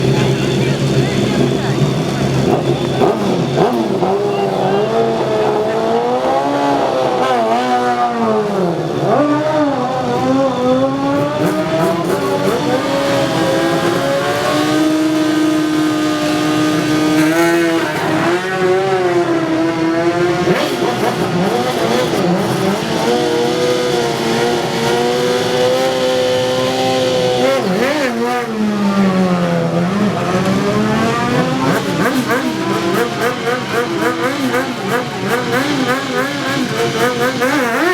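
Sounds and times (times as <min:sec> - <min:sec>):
motorcycle engines revving: 0:00.0 - 0:37.9.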